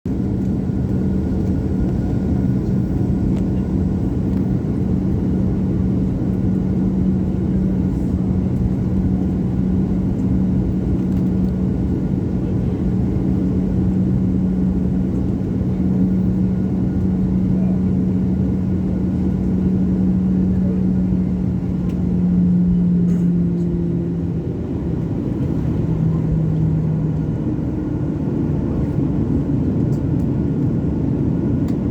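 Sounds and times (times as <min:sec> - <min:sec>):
jet engines droning: 0:00.1 - 0:31.9.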